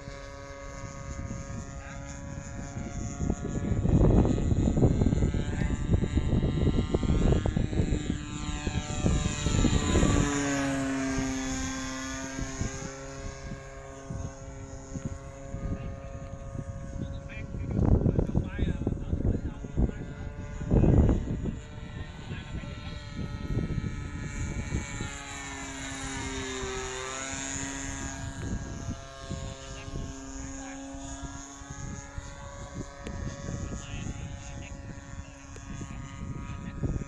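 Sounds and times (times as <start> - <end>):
model airplane engine droning: 0.0 - 37.0
wind rumble on microphone: 0.0 - 37.0.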